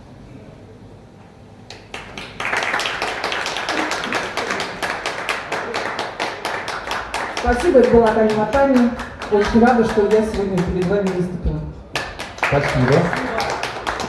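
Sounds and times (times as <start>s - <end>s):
audience applauding: 1.7s - 14.0s.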